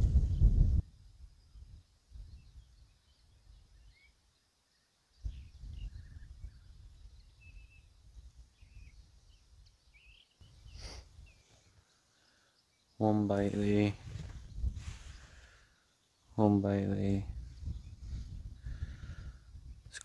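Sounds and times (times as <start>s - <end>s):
faint bird calls and chirps: 0.0s - 20.0s.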